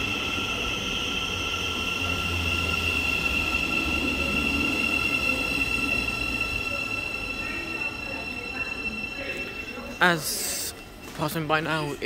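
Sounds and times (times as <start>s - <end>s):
electric train rolling in: 0.0s - 12.0s
high-pitched whine: 0.0s - 12.0s.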